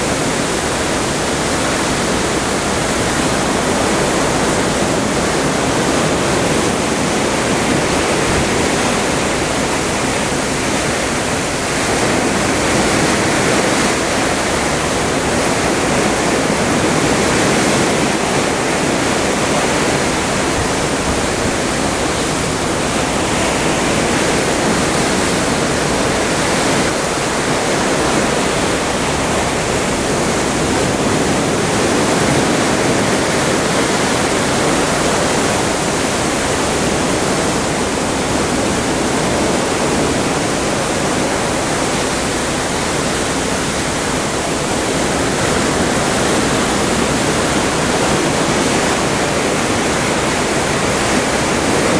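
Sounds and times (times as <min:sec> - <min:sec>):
sea water rushing along ship: 0:00.0 - 0:51.9.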